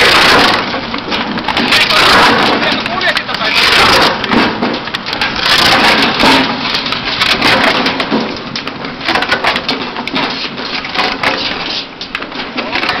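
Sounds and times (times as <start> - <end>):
machine crushing and splintering wood: 0.0 - 13.0.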